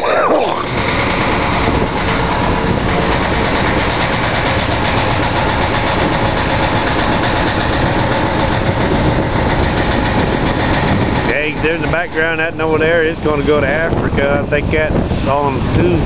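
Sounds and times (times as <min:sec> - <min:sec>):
engine rumbling steadily: 0:00.0 - 0:16.0.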